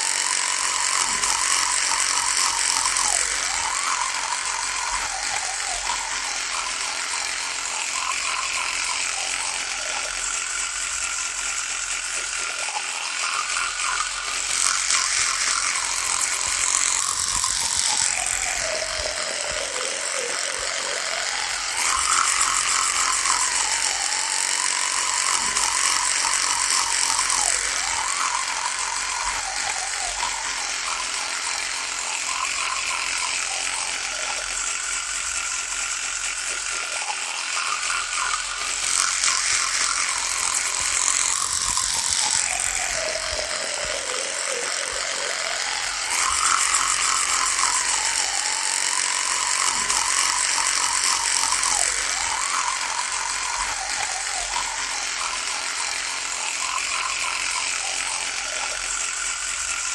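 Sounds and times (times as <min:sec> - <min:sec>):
electric toothbrush buzzing: 0:00.0 - 0:59.9.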